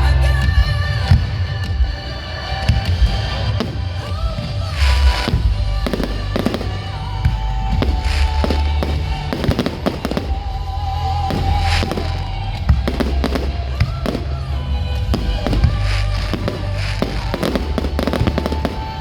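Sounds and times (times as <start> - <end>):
music playing: 0.0 - 19.0
fireworks bangs: 0.7 - 19.0
fireworks hissing and crackling: 2.2 - 19.0.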